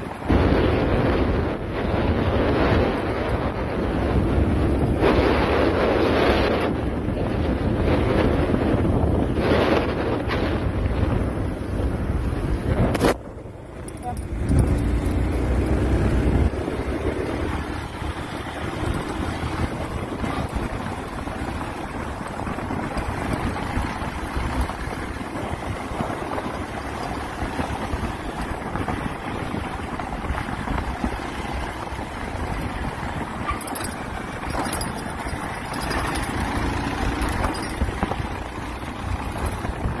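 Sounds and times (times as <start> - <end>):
motorcycle engine running: 0.0 - 40.0
wind noise on microphone: 0.0 - 40.0.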